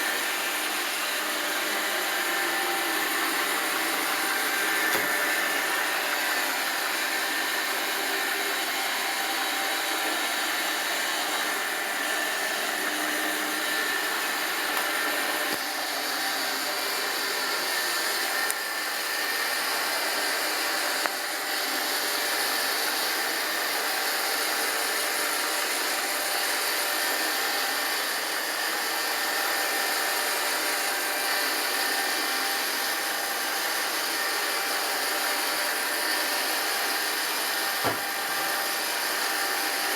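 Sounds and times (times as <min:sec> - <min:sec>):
robot vacuum motor whirring: 0:00.0 - 0:39.9.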